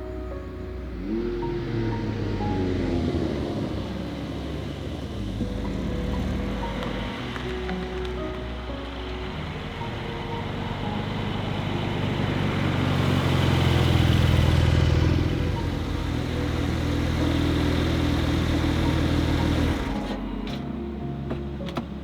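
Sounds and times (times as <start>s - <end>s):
sports car engine passing: 0.0s - 22.0s.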